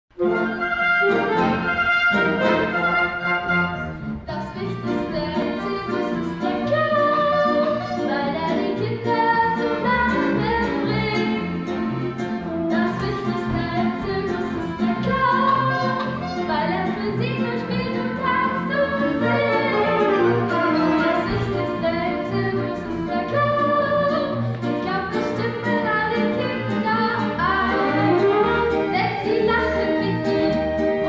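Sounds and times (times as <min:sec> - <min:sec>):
live band playing: 0:00.1 - 0:08.2, 0:09.6 - 0:31.0.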